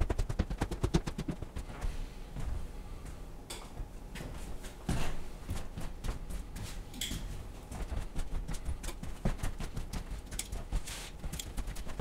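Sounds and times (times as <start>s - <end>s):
footsteps on bare floor: 0.1s - 12.0s.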